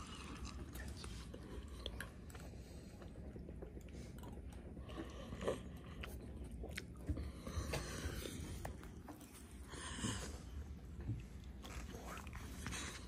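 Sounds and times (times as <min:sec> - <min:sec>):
chewing and crunching: 0:00.0 - 0:13.0.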